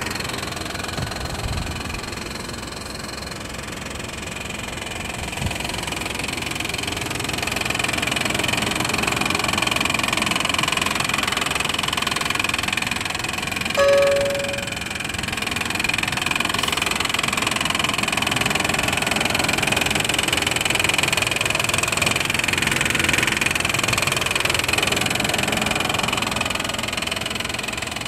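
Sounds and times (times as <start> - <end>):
engine idling with fast ticking: 0.0 - 28.0.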